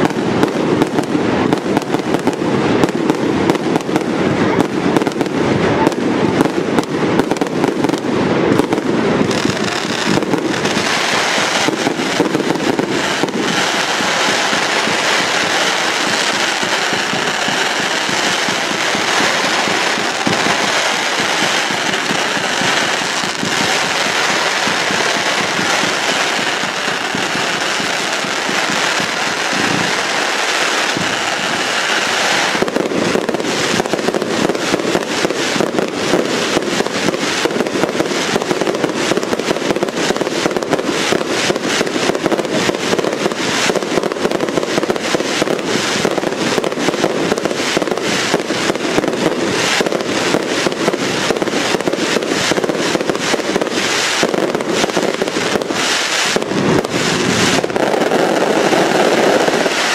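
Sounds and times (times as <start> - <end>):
firework bangs: 0.0 - 59.9
fireworks crackling: 0.0 - 59.9.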